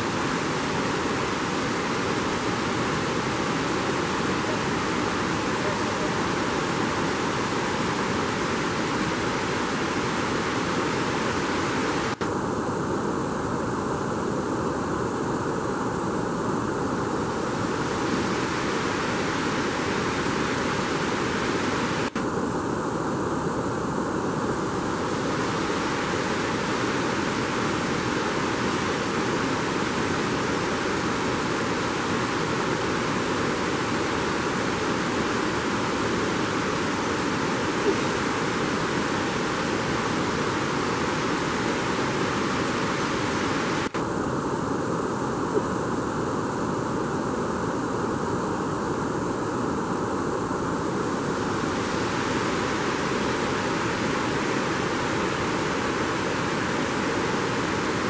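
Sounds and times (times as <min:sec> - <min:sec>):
mountain river rushing: 0:00.0 - 0:58.0.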